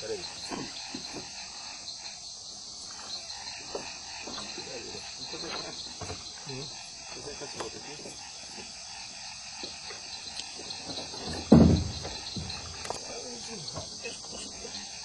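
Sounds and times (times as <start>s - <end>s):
crickets and insects buzzing: 0.0s - 15.0s.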